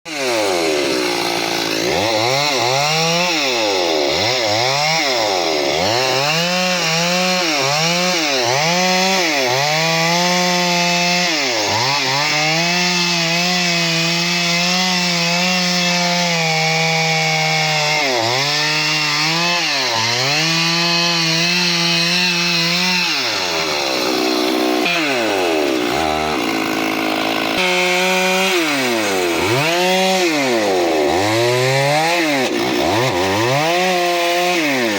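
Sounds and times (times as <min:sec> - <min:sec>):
chainsaw cutting tree: 0:00.1 - 0:34.9.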